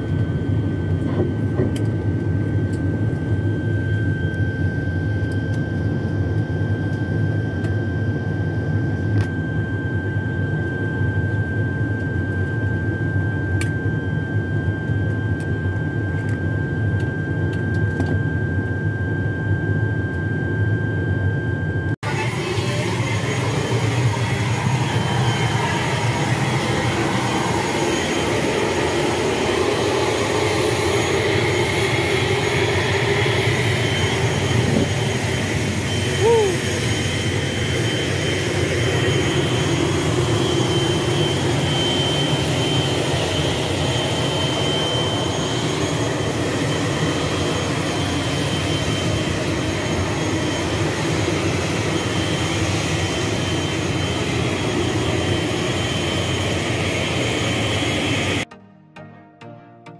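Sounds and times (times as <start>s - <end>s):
turboprop engine running: 0.0s - 58.5s.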